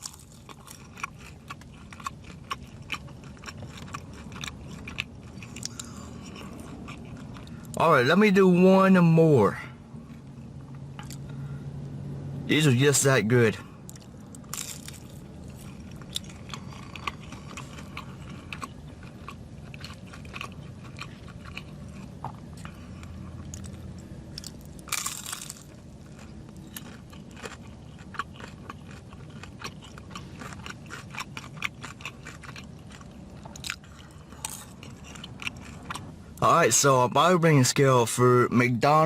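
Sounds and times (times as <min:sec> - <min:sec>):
crunchy chewing: 0:00.0 - 0:07.8, 0:10.0 - 0:11.6, 0:13.8 - 0:36.4.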